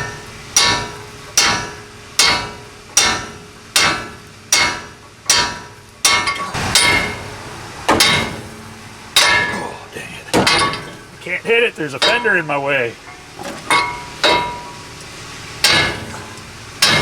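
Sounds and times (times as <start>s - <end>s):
hammer striking steel: 0.0s - 9.7s, 10.4s - 11.2s, 12.0s - 12.4s, 13.1s - 14.9s, 15.6s - 17.0s.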